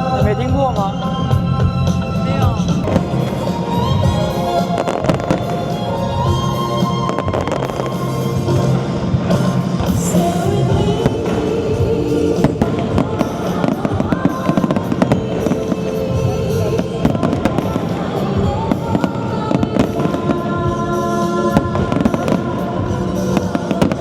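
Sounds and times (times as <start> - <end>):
fireworks bursting and crackling: 0.0 - 24.0
song playing: 0.0 - 24.0.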